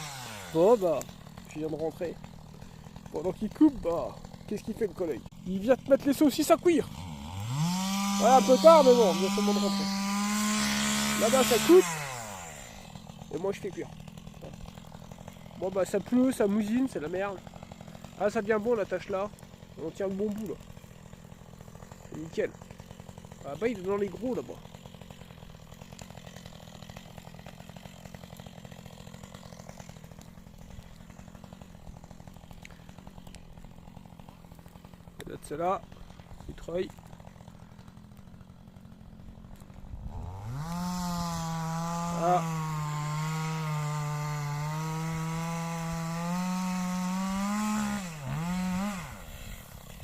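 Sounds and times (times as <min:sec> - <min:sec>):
distant chainsaw cutting logs: 0:00.0 - 0:50.0.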